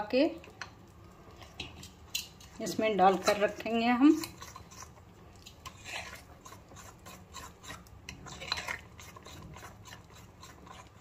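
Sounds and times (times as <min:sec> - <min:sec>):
spoon scraping batter in glass bowl: 0:01.3 - 0:11.0.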